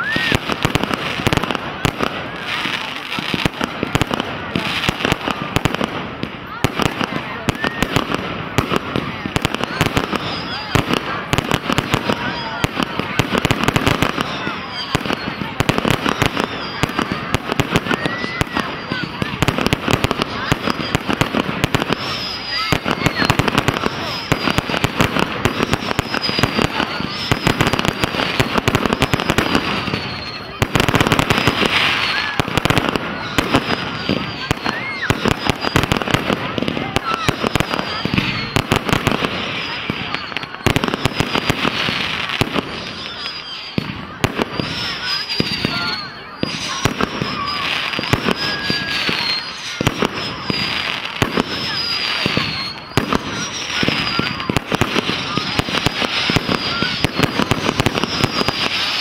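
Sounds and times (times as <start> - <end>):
fireworks bangs and crackles: 0.0 - 59.0
high firework whistle: 0.0 - 59.0.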